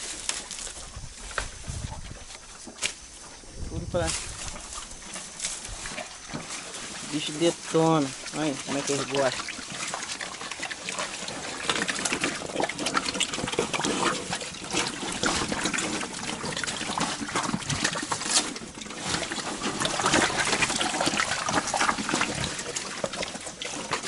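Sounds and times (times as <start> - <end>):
pigs chewing corn: 0.0 - 24.0.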